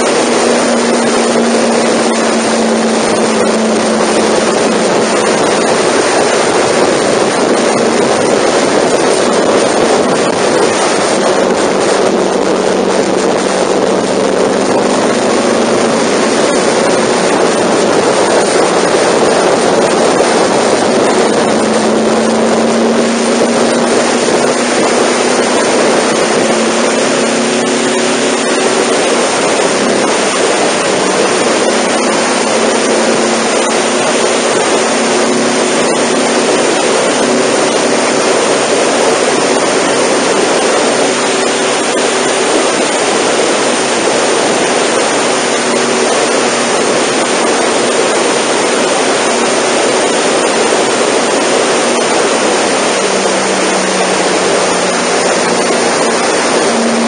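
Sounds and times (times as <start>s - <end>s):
faint motorcycle engine droning: 0.0s - 57.0s
wind rushing over microphone: 0.0s - 57.0s.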